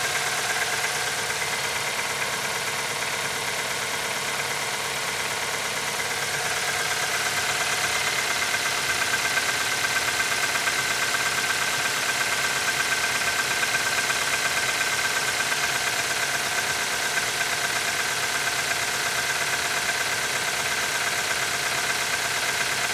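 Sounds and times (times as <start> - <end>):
car engine idling: 0.0 - 22.9
engine knocking: 0.0 - 22.9.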